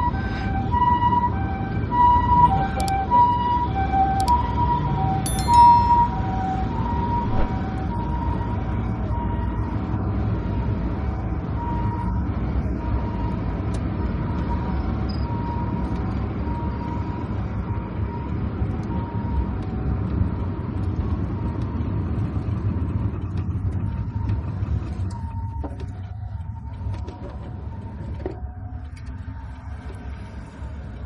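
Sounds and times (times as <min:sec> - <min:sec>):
two-tone emergency siren: 0:00.0 - 0:31.0.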